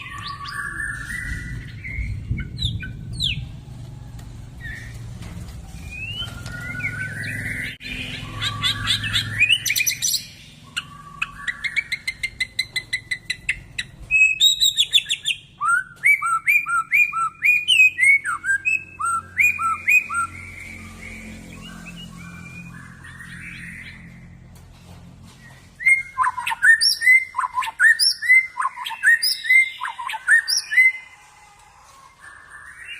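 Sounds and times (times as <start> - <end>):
bird singing varied song: 0.0 - 3.5, 5.7 - 24.4, 25.3 - 31.1.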